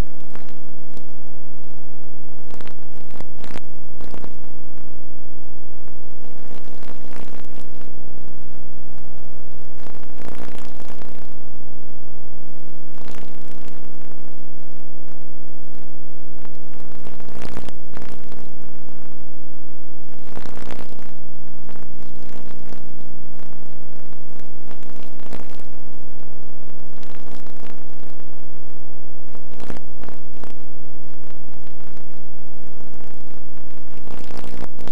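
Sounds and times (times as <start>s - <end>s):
crackles: 0.0s - 34.9s
loud electrical hum: 0.0s - 34.9s.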